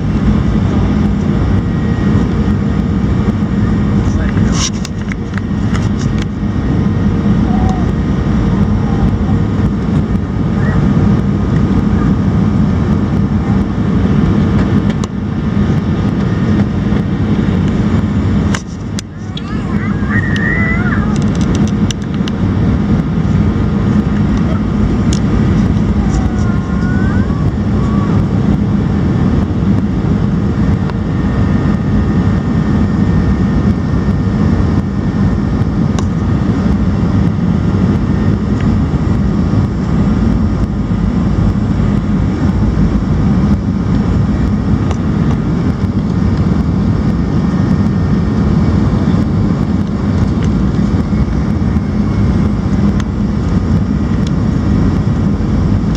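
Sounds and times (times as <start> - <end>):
jet engine cabin rush: 0.0 - 55.9.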